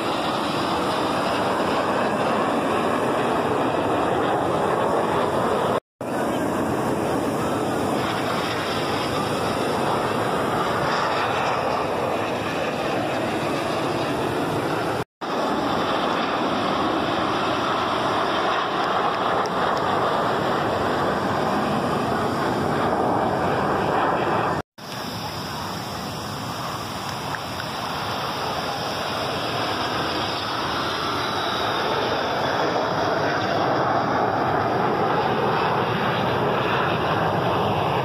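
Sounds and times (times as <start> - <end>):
distant jet roar: 0.0 - 38.0
wind: 0.0 - 38.0.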